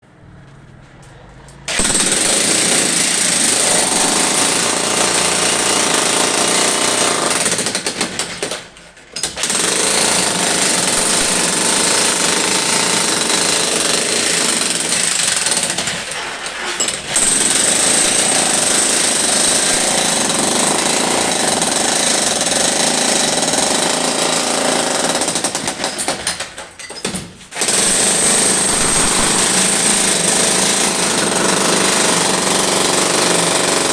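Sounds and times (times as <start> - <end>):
demolition hammer chipping: 1.7 - 33.9.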